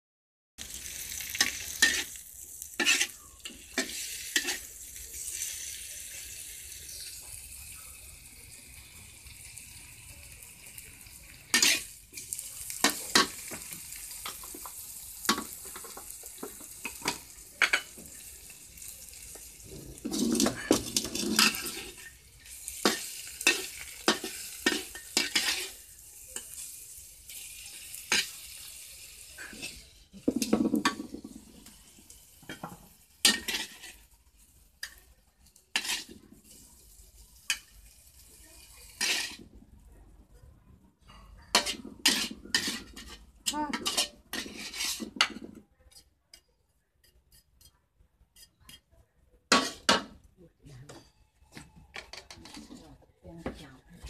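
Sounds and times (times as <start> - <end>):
metal spatula scraping wok: 0.6 - 7.1, 11.0 - 35.1, 35.7 - 39.6, 41.1 - 48.9, 49.5 - 50.2, 51.9 - 53.0
fish sizzling in oil: 0.6 - 39.8, 41.4 - 46.0.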